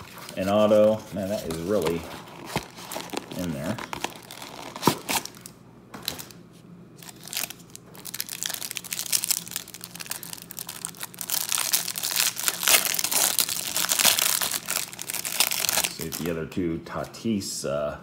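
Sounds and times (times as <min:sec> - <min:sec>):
card pack crackling: 0:00.0 - 0:06.4, 0:07.0 - 0:16.4
plastic wrapper crinkling: 0:00.0 - 0:06.4, 0:07.0 - 0:16.4.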